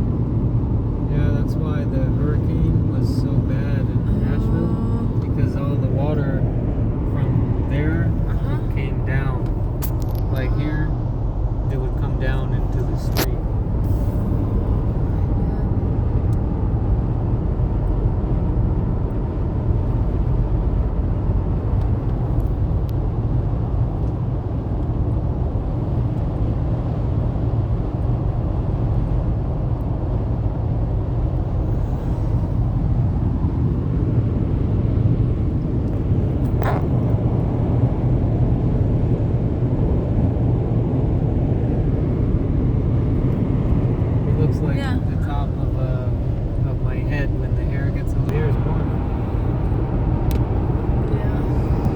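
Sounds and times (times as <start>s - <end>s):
car driving on road: 0.0s - 51.9s.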